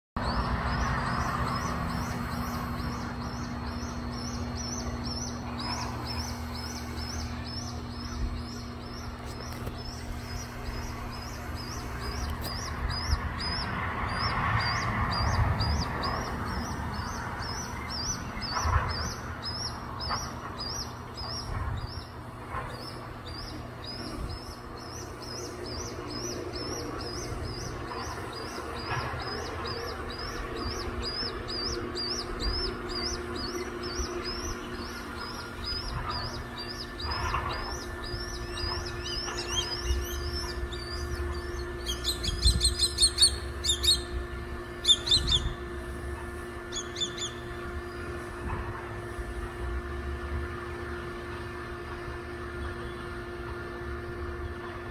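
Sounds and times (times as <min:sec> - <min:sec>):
young bird calling: 0:00.3 - 0:44.2, 0:44.8 - 0:45.6, 0:46.7 - 0:47.5.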